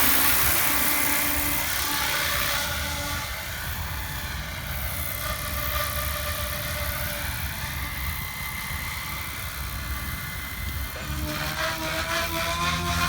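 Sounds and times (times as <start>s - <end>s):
rc helicopter motor whine: 0.0s - 13.0s.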